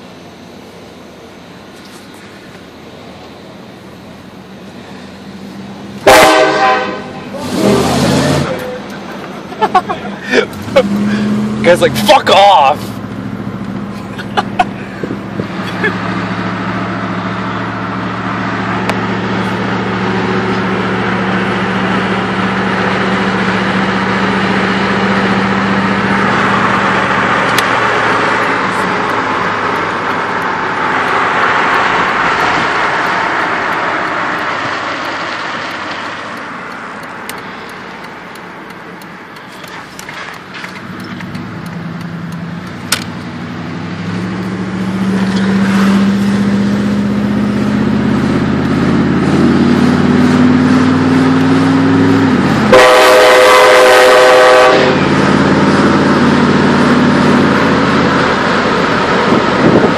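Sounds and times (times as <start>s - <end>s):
low engine drone: 0.0s - 59.9s
road and wind rush: 0.0s - 59.9s.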